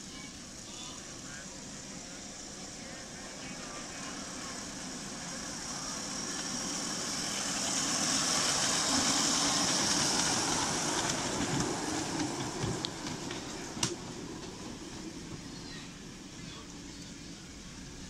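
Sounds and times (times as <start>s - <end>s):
miniature train running on rails: 0.0s - 18.0s.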